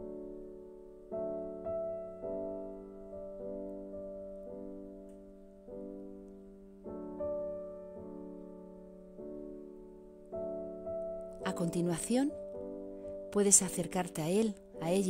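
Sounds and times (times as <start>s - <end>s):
soft slow piano music: 0.0s - 15.0s.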